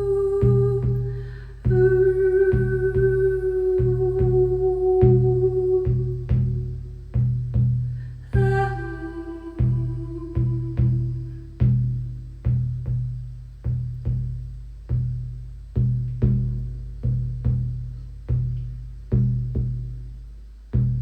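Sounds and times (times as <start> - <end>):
frame drum beaten slowly: 0.0 - 21.0.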